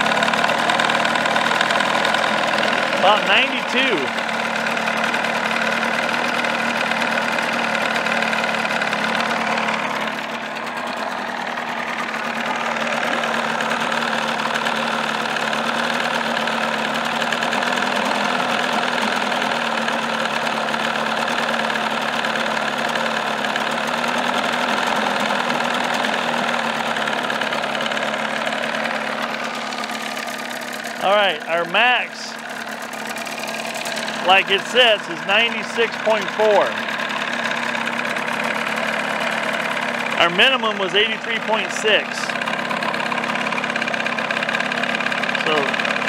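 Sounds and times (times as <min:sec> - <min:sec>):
outboard motor running: 0:00.0 - 0:46.0.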